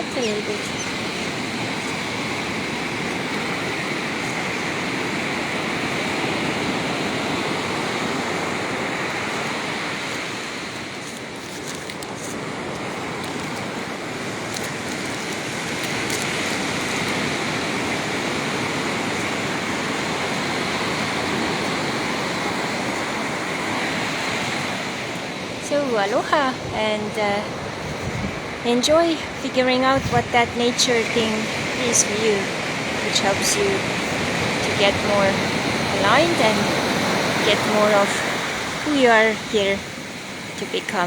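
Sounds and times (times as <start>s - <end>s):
ocean surf washing on beach: 0.0s - 41.0s.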